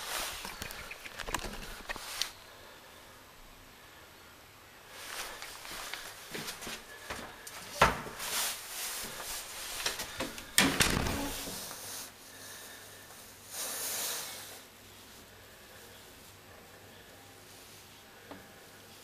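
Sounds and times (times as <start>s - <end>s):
rustle: 0.0s - 3.6s, 4.8s - 10.2s, 11.3s - 19.0s.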